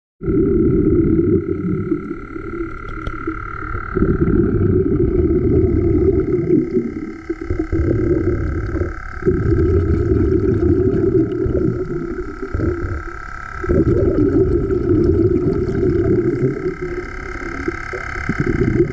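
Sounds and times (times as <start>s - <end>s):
air compressor whine and rumble: 0.2s - 18.9s.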